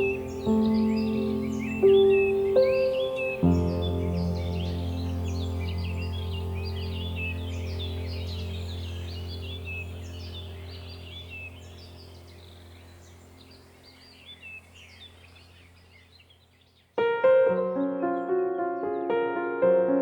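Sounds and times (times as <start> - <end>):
soft piano music: 0.0 - 15.1, 17.0 - 20.0
songbirds chirping: 0.0 - 20.0.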